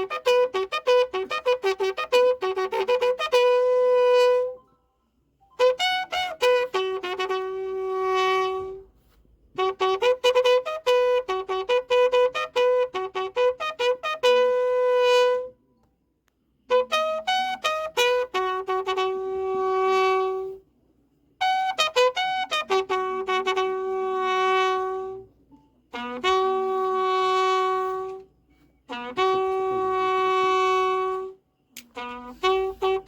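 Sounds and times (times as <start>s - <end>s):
trumpet-like brass call: 0.0s - 4.7s, 5.6s - 15.6s, 16.7s - 20.7s, 21.4s - 33.0s.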